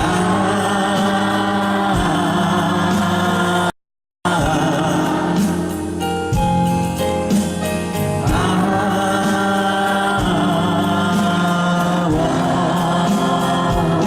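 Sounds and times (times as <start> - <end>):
live band music: 0.0 - 3.7, 4.3 - 14.0
crowd singing along: 0.0 - 6.6, 7.3 - 14.0.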